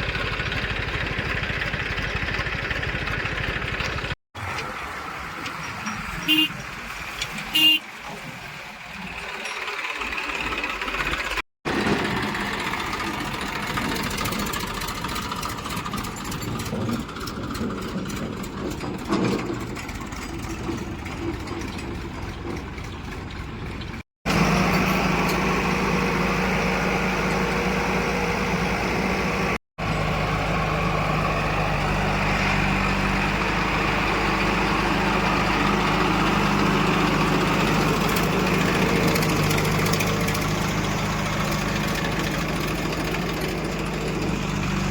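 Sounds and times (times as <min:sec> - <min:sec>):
diesel engine running: 0:00.0 - 0:06.8, 0:09.0 - 0:44.9.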